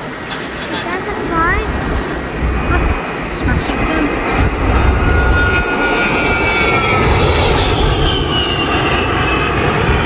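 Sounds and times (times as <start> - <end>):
aircraft flying past: 0.0 - 10.0.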